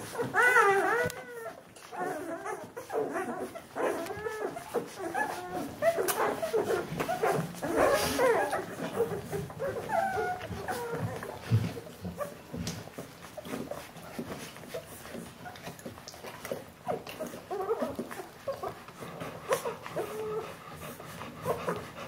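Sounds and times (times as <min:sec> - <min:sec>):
puppies squeaking and whimpering: 0:00.0 - 0:22.0.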